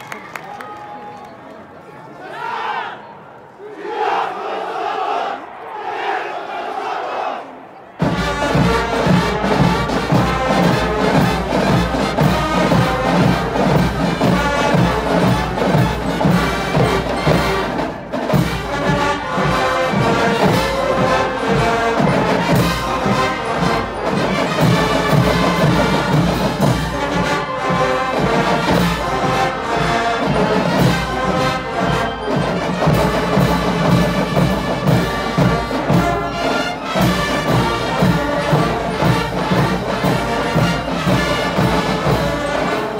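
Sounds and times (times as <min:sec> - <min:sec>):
marching band playing: 0:08.0 - 0:42.9
steady drum beat: 0:08.0 - 0:42.9.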